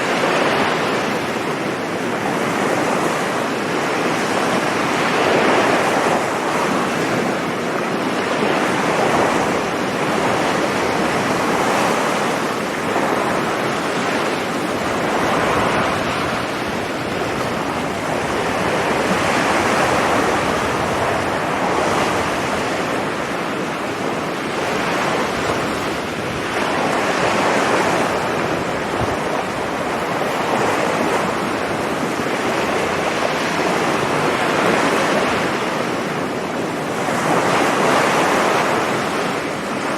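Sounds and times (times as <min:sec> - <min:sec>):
waves breaking on a beach: 0:00.0 - 0:39.9
wind on the microphone: 0:00.0 - 0:39.9.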